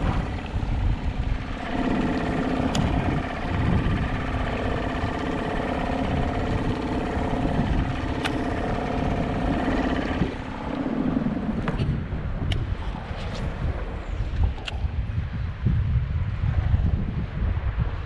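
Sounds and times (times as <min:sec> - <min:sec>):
outboard motor running: 0:00.0 - 0:14.7.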